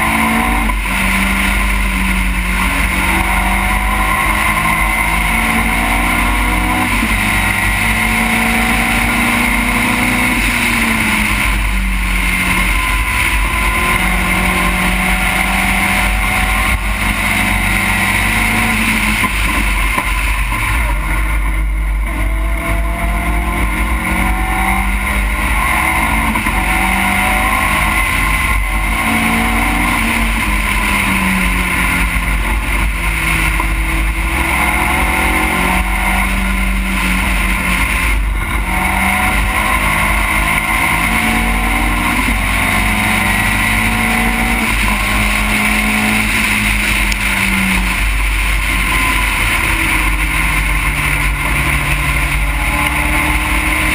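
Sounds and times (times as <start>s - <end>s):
race car engine revving through gears: 0.0s - 53.9s.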